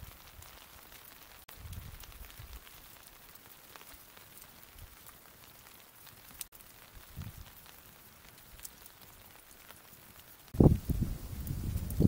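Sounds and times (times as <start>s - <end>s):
bonfire crackling: 0.0s - 12.0s.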